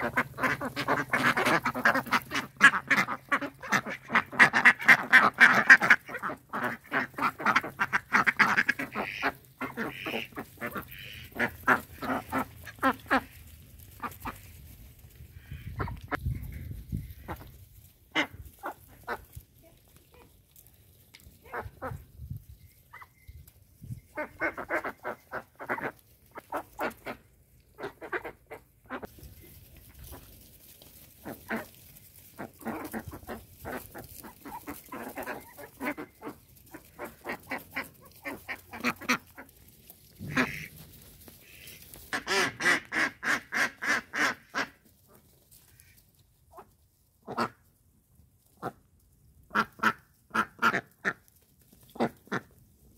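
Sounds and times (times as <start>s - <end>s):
ducks quacking: 0.0s - 20.3s, 21.4s - 22.2s, 23.8s - 47.7s, 49.5s - 51.3s, 51.9s - 52.6s.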